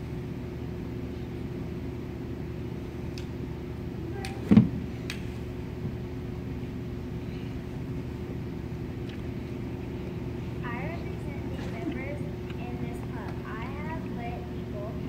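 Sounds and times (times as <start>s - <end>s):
ventilation fan humming: 0.0s - 15.0s.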